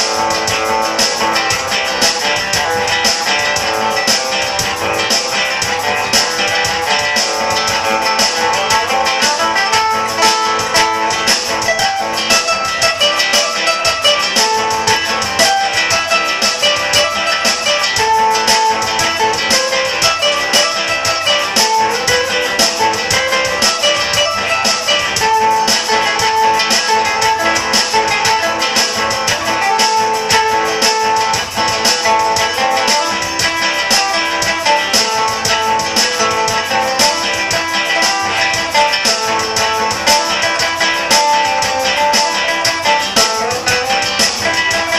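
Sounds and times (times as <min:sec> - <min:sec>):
plucked string music: 0:00.0 - 0:44.9.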